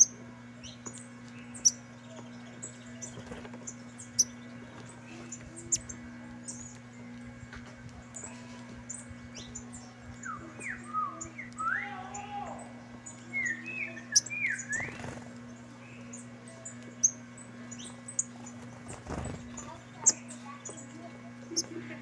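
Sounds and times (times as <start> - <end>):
finches chirping: 0.0 - 22.0
steady low hum: 0.0 - 22.0.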